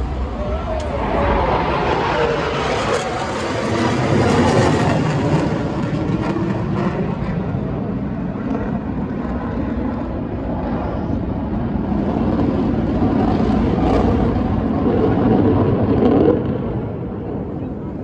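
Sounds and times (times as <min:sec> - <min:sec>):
military aircraft flying overhead: 0:00.0 - 0:18.0.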